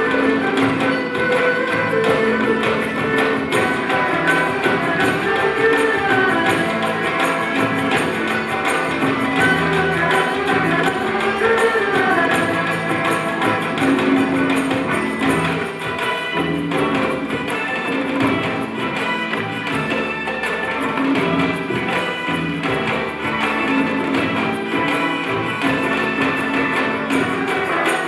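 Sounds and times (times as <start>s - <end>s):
guzheng: 0.0s - 28.0s
light quick percussion: 0.0s - 28.0s
plucked pipa: 0.0s - 28.0s.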